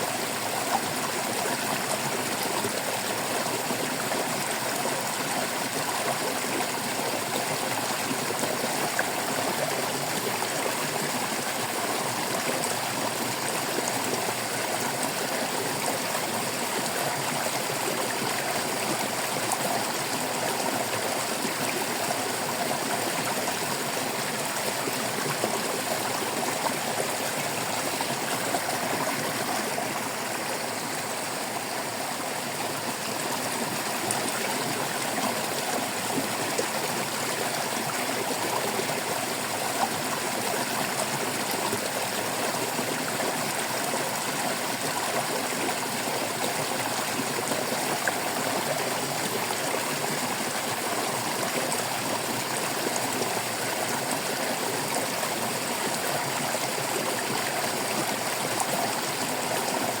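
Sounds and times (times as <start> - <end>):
stream babbling over stones: 0.0 - 60.0.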